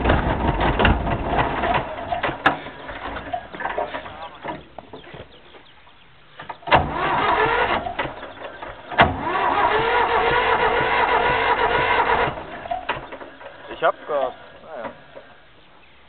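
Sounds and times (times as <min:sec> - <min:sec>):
tractor engine cranking: 0:00.0 - 0:05.4, 0:06.3 - 0:15.5.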